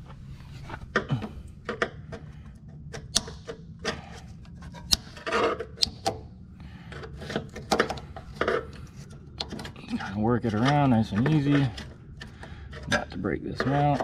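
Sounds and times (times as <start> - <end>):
screwdriver prying and scraping: 0.0 - 6.2, 6.9 - 14.0.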